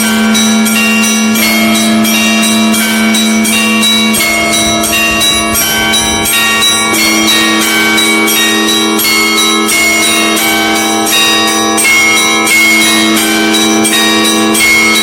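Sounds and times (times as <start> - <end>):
hum of larger bells: 0.0 - 15.0
small church bells pealing: 0.0 - 15.0.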